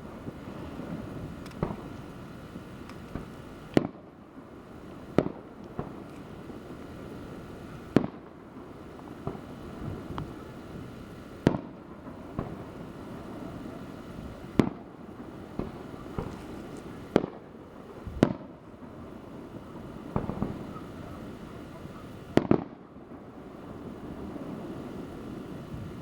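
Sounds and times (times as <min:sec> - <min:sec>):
fireworks bangs: 0:00.0 - 0:26.0
steady background noise: 0:00.0 - 0:26.0
small firework pops: 0:00.2 - 0:08.4, 0:09.1 - 0:10.6, 0:11.2 - 0:19.0, 0:19.6 - 0:23.3.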